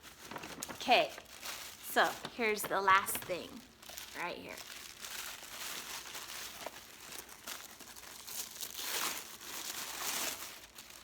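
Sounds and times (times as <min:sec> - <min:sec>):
gift wrap paper crinkling: 0:00.0 - 0:11.0.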